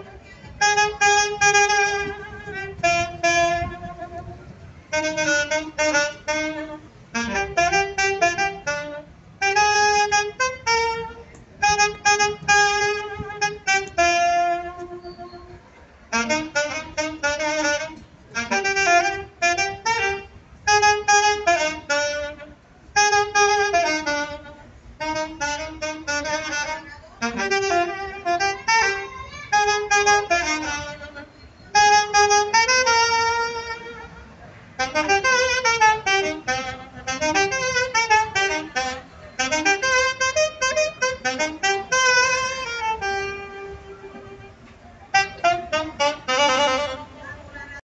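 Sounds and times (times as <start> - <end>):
saxophone melody: 0.0 - 47.8.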